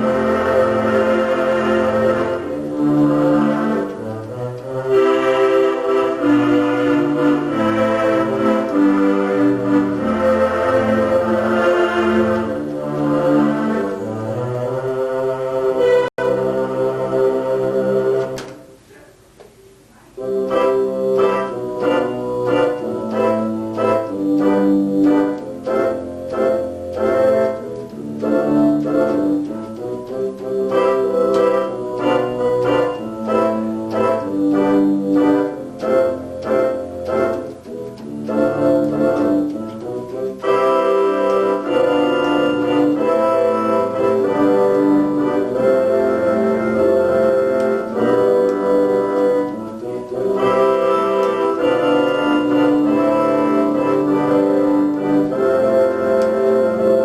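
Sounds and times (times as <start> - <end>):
electronic keyboard playing chords: 0.0 - 18.9, 20.1 - 57.0.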